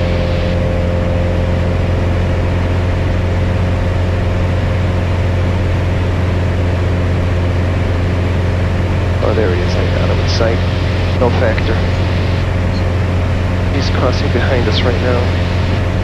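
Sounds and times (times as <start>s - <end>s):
airplane engine droning in cabin: 0.0s - 16.0s.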